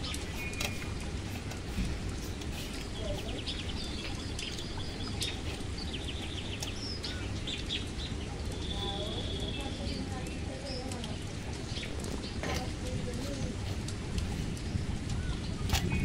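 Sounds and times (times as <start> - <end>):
low ambient rumble: 0.0 - 16.0
small birds chirping: 0.0 - 16.0.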